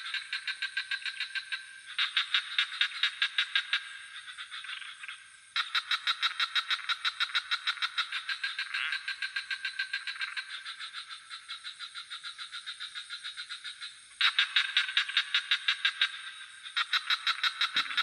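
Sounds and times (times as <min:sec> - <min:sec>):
crickets trilling: 0:00.0 - 0:18.0
frog chorus calling: 0:00.0 - 0:18.0.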